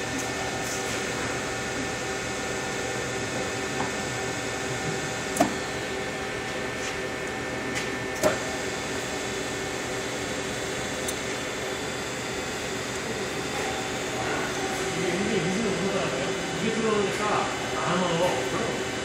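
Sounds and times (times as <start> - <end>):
mechanical hum with held tones: 0.0 - 19.0.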